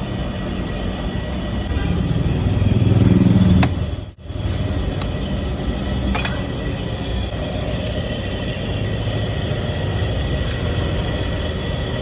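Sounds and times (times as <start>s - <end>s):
street traffic rumble: 0.0s - 12.0s
vehicle engine: 0.0s - 12.0s.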